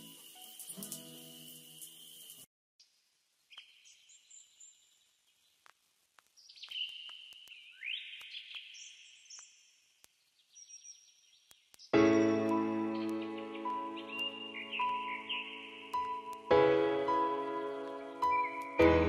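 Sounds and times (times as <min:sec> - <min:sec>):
faint birdsong: 0:00.5 - 0:05.7, 0:06.3 - 0:12.0, 0:12.8 - 0:16.4, 0:17.8 - 0:18.8.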